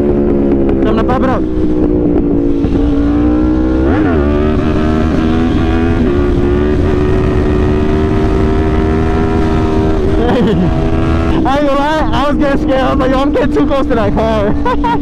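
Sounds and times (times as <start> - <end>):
motorcycle engine revving: 0.0 - 14.9
wind rushing on microphone: 0.0 - 15.0.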